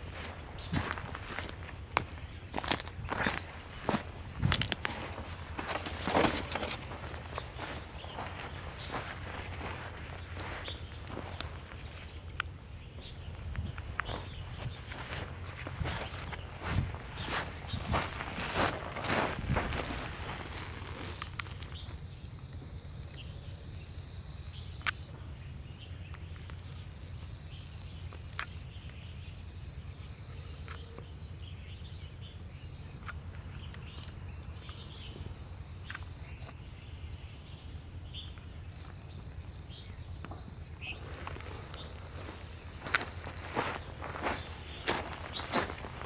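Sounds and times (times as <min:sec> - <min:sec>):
faint chirps and ticks: 0:00.0 - 0:46.0.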